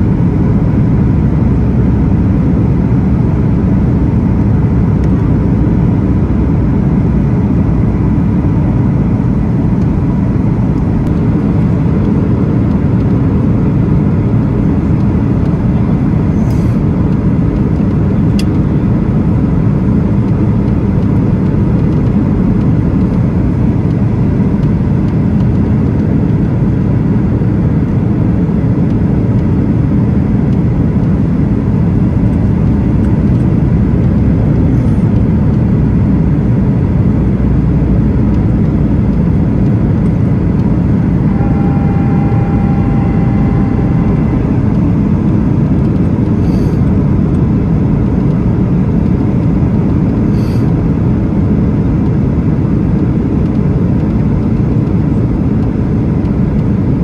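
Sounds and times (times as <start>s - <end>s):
airplane cabin low rumble: 0.0s - 57.0s
faint steady whine: 0.0s - 57.0s.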